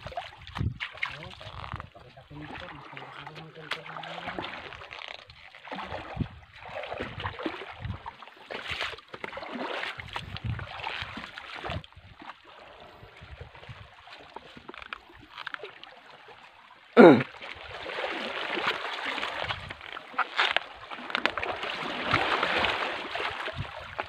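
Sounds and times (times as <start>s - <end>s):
seawater sloshing around wading legs: 0.0s - 24.0s.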